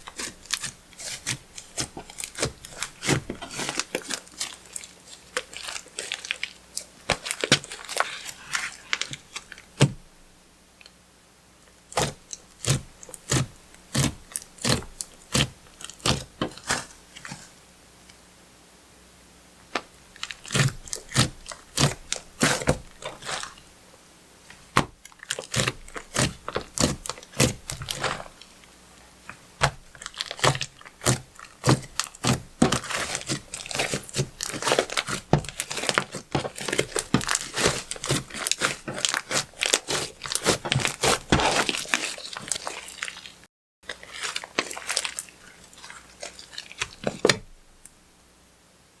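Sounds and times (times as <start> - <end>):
slime squishing: 0.0 - 10.1, 11.9 - 17.5, 19.7 - 23.7, 24.5 - 47.9.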